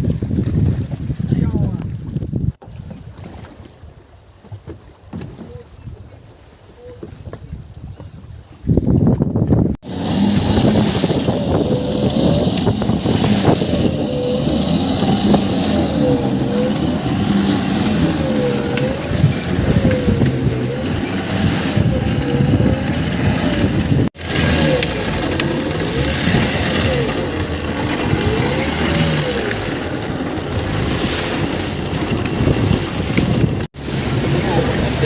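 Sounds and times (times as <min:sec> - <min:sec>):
boat engine whining and rumbling: 0:00.0 - 0:35.0.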